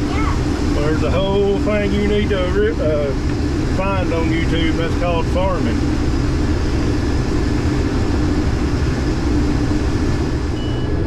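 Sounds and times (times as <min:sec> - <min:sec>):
combine harvester engine drone: 0:00.0 - 0:11.0
faint high whine: 0:00.0 - 0:11.0.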